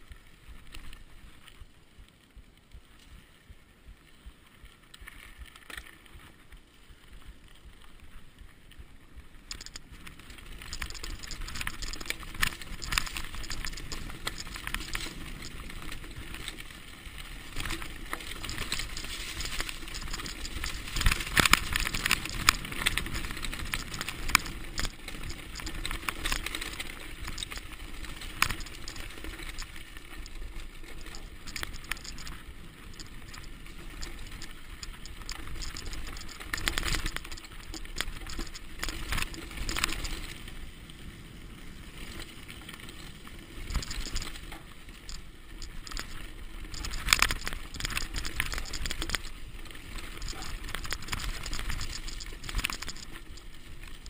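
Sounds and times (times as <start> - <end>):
mountain bike rattling over dirt: 0.0 - 54.0.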